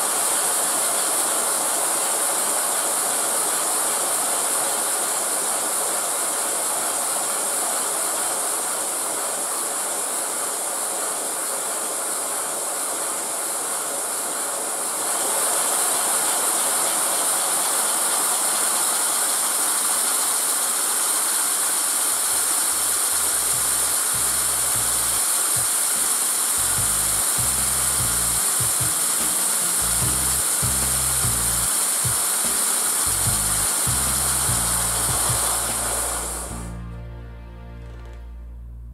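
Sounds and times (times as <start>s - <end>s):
compressed air hissing through steam engine: 0.0s - 36.6s.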